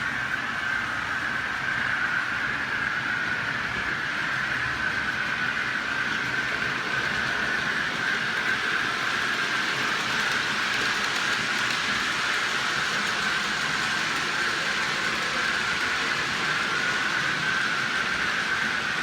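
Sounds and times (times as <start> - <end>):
model train wheels rolling: 0.0 - 19.0.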